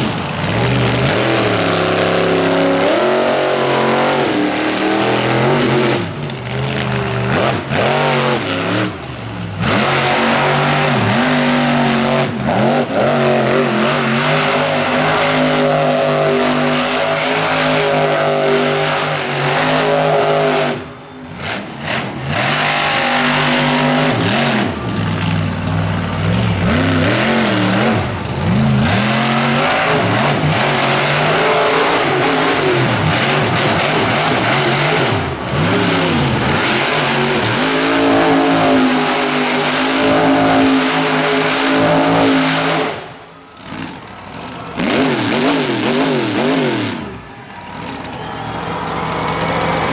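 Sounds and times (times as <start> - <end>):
truck engine revving hard: 0.0 - 49.9.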